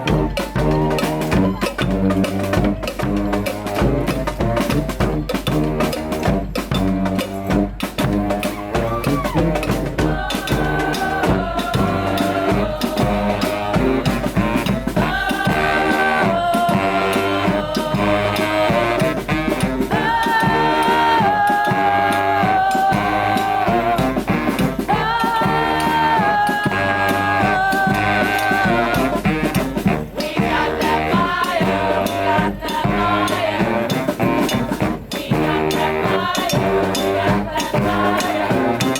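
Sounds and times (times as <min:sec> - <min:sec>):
brass horns playing chords: 0:00.0 - 0:38.9
steady drum beat: 0:00.0 - 0:38.9.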